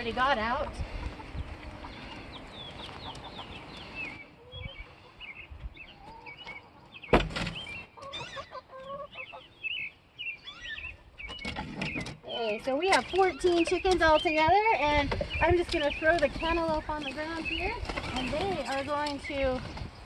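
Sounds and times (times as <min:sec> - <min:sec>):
chickens clucking and chirping: 0:00.0 - 0:20.0.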